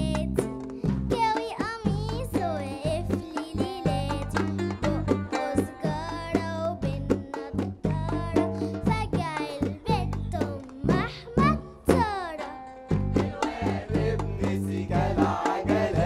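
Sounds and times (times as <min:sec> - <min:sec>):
band music with sliding melody: 0:02.4 - 0:16.0.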